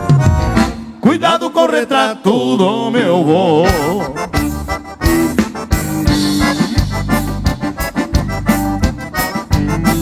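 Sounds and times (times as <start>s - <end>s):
accordion dance music: 0.0s - 10.0s.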